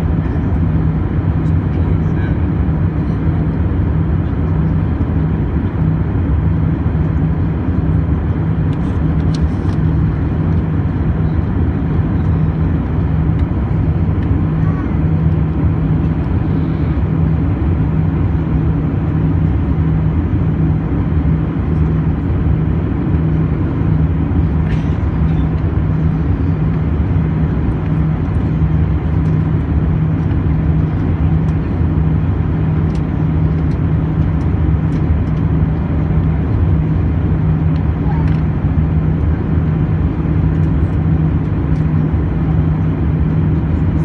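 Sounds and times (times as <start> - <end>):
airliner cabin engine drone: 0.0 - 44.0.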